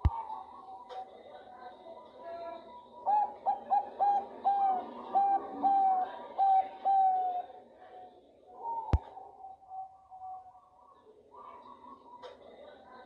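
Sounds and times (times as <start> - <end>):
dove cooing: 0.0 - 7.6, 8.5 - 13.0.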